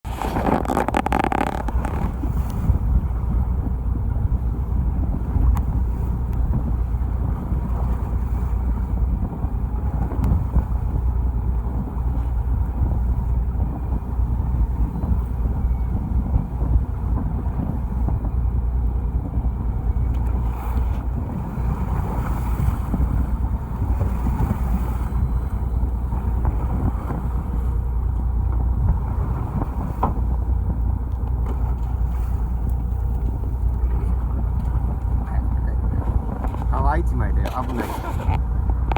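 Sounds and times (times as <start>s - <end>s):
boat engine low rumble: 0.0s - 38.9s
wind buffeting microphone: 0.0s - 38.9s.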